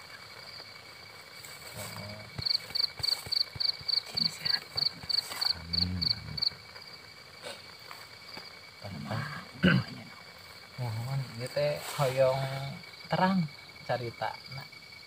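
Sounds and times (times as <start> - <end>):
cricket chirping: 0.0 - 15.0
faint insect drone: 0.0 - 15.0.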